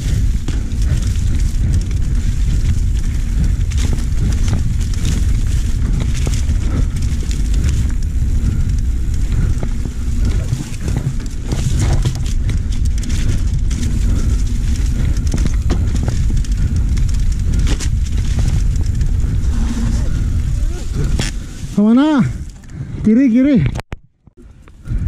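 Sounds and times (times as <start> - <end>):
bike rattles and knocks: 0.0 - 22.8
wind buffeting microphone: 0.0 - 23.8, 24.4 - 25.0.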